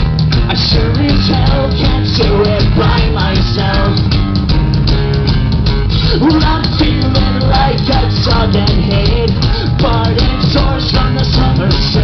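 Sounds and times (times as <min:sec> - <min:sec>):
bass guitar: 0:00.0 - 0:12.0
drum kit beating: 0:00.0 - 0:12.0
electric guitars: 0:00.0 - 0:12.0
man singing: 0:00.5 - 0:04.1, 0:06.0 - 0:12.0.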